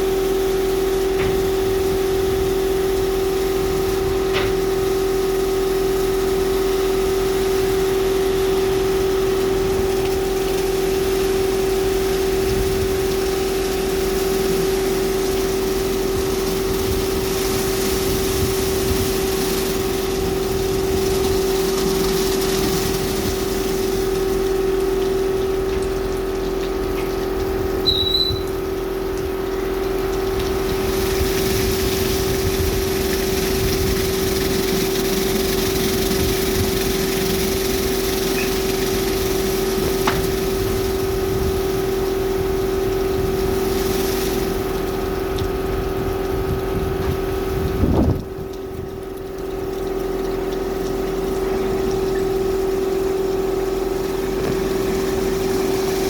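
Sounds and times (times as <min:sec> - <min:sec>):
pump hum: 0:00.0 - 0:56.0
water spraying: 0:00.0 - 0:56.0.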